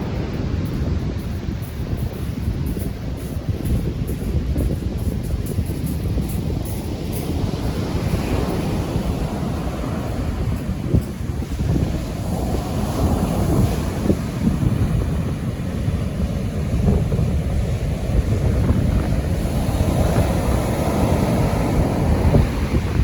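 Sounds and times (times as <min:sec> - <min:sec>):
surf rolling on rocky beach: 0:00.0 - 0:23.0
wind buffeting microphone: 0:00.0 - 0:23.0.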